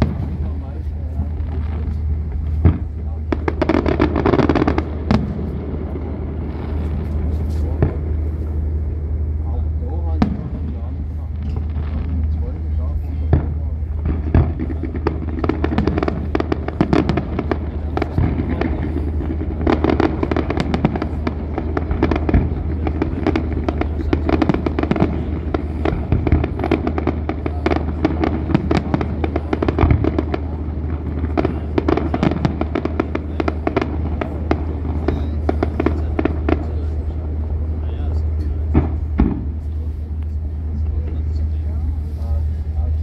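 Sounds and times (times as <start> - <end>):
fireworks crackling and popping: 0.0 - 43.0
steady low hum: 0.0 - 43.0.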